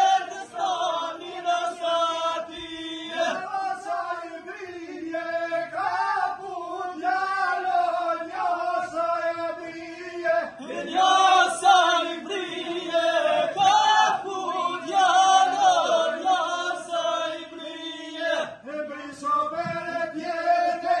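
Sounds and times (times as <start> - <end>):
group singing a folk chant: 0.0 - 21.0.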